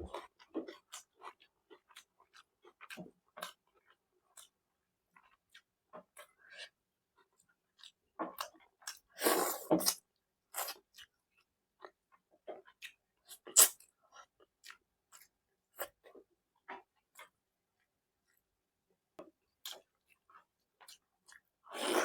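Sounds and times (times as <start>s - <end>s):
person chewing food: 0.0s - 4.6s, 5.2s - 17.4s, 19.6s - 22.0s.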